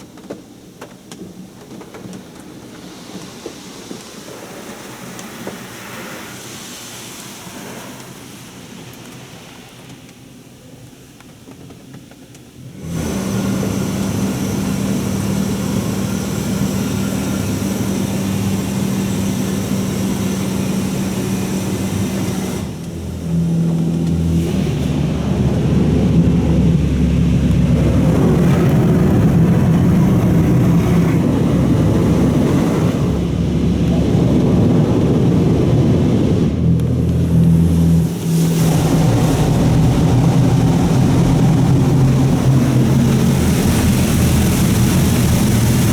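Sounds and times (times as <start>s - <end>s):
car wash pump hum: 0.0s - 45.9s
water spraying against car: 0.0s - 45.9s.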